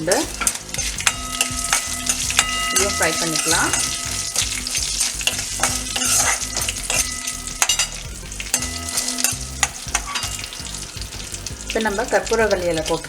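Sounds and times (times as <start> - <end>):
food sizzling in hot oil: 0.0 - 13.0
utensil scraping and tapping pan: 0.0 - 13.0.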